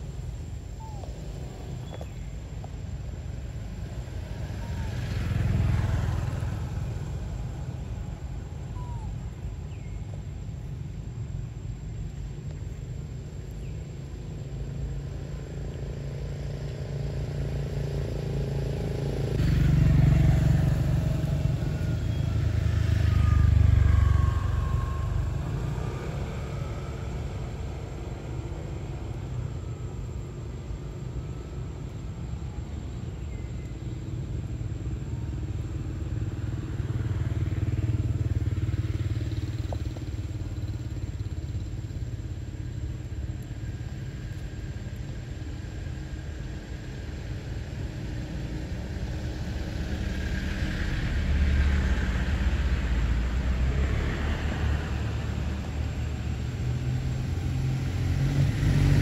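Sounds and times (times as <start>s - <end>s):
vehicles passing rumble: 0.0s - 59.0s.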